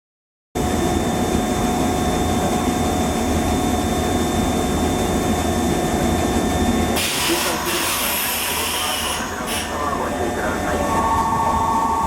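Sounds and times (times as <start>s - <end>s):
constant-pitch equipment whine: 0.6s - 12.0s
train carriage rumble: 0.6s - 12.0s.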